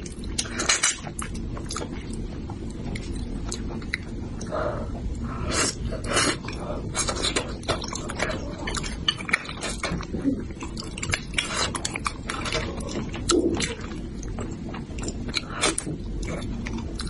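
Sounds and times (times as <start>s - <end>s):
wet mouth eating noises: 0.0s - 17.0s.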